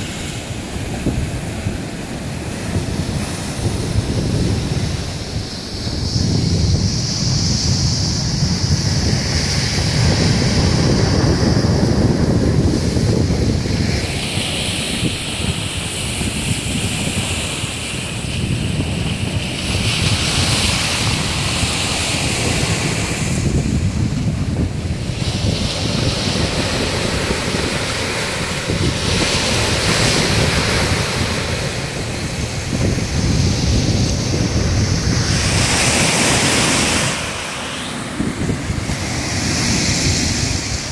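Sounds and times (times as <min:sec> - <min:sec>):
sea surf breaking on beach: 0:00.0 - 0:40.9
wind rumbling on microphone: 0:00.0 - 0:40.9.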